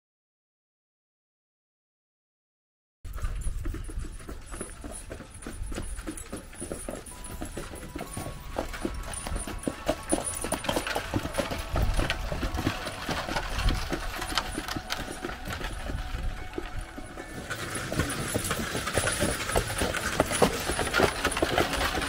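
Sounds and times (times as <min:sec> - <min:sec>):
horse hooves on hard road: 0:03.1 - 0:22.0
wagon wheels rumbling: 0:03.1 - 0:22.0.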